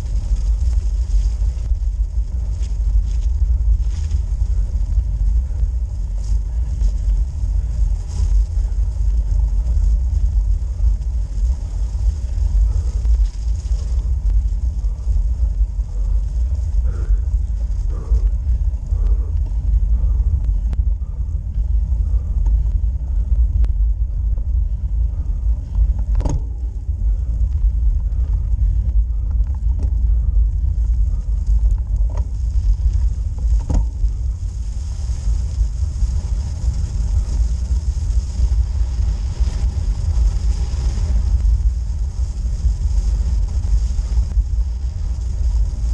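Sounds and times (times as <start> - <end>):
bike rolling rumble: 0.0 - 45.9.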